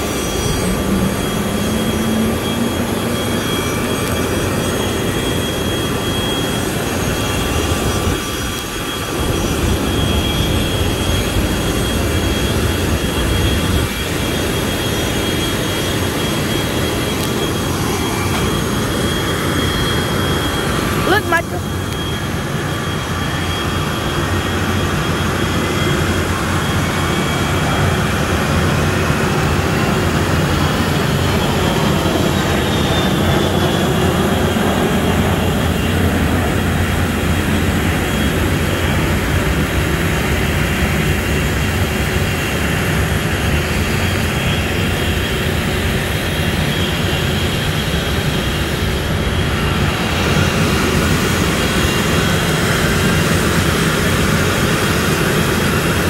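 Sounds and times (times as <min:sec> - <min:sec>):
jet engine roar: 0:00.0 - 0:56.0
turbine whine: 0:00.0 - 0:56.0.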